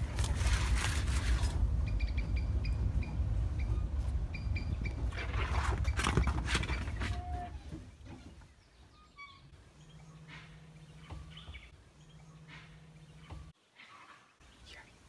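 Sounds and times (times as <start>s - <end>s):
vehicle rumbling and rattling: 0.0s - 13.6s
birds chirping: 1.7s - 15.0s.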